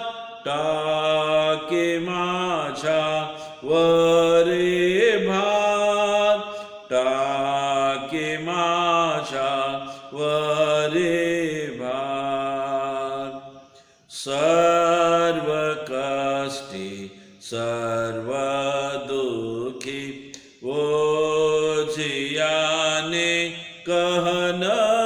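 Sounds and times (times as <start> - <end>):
man singing a hymn solo: 0.0 - 13.4, 14.2 - 25.0.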